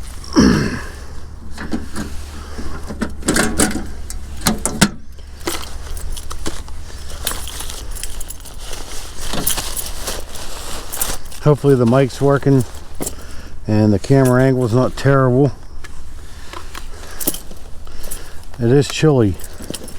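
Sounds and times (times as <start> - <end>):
keys and metal parts rattling: 1.2 - 19.9.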